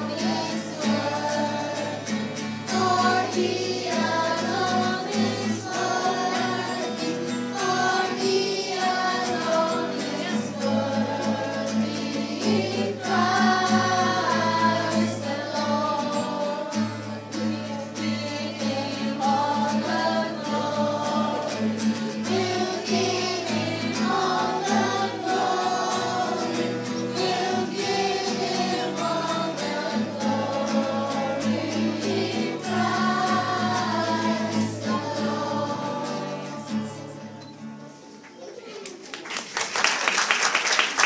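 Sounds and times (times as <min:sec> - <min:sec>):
children's choir singing: 0:00.0 - 0:38.6.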